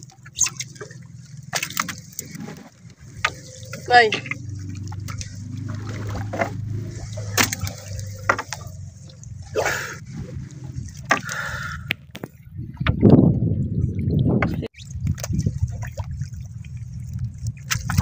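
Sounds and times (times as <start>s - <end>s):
shallow water sloshing and splashing: 0.0s - 18.0s.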